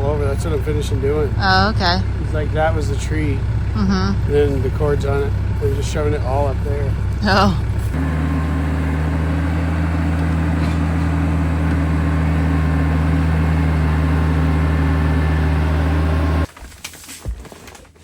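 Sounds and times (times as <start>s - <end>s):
vehicle engine idling: 0.0s - 16.5s.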